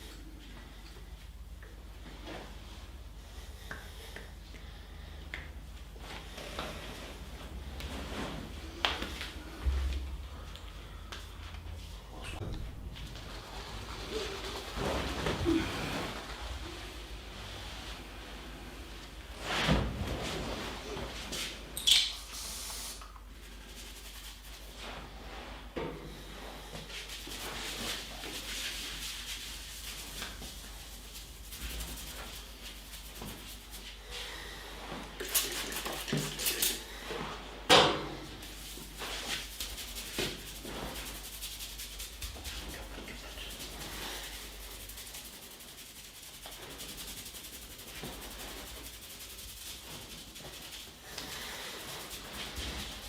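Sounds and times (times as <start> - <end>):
hands rubbing skin and hair: 5.4 - 12.0, 12.9 - 21.7, 22.8 - 25.5, 26.8 - 37.3, 38.4 - 53.0.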